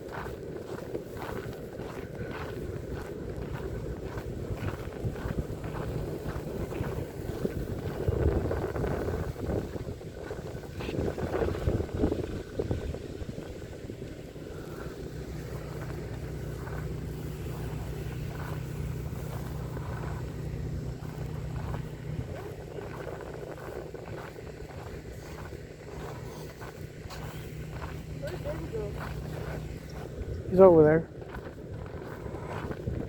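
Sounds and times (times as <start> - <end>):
engine running steadily: 0.0 - 33.0
wind buffeting microphone: 0.0 - 33.0.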